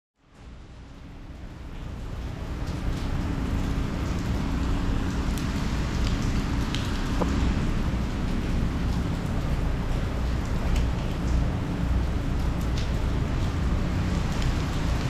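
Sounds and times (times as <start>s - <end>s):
heavy rain: 0.2s - 15.0s
wind rumble on microphone: 0.4s - 15.0s.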